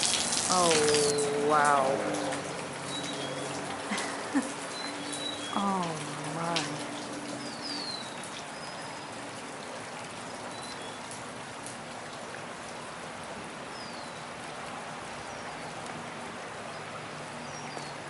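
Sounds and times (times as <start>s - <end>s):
rain splashing on flooded ground: 0.0s - 18.0s.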